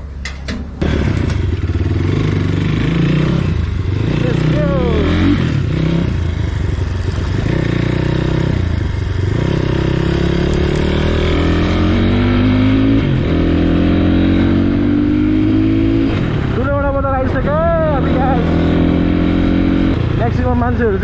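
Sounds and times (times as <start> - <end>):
motorcycle engine accelerating: 0.8 - 21.0.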